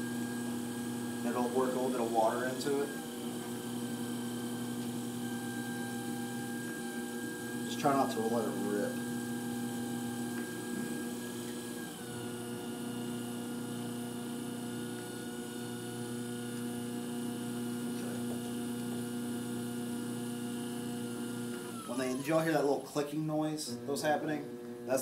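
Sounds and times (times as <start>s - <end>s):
pottery wheel motor humming: 0.0s - 25.0s.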